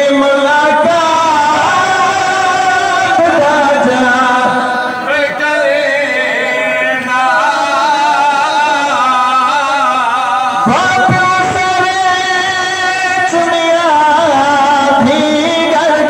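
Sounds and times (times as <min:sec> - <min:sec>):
men chanting a lament: 0:00.0 - 0:16.0.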